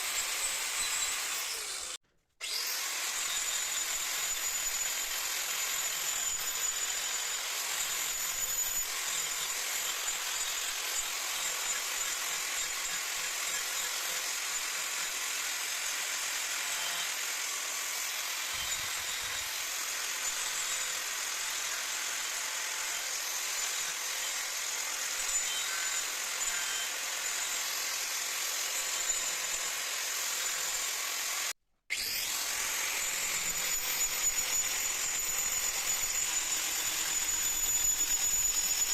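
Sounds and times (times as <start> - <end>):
power tool whining on wood: 0.0 - 38.9.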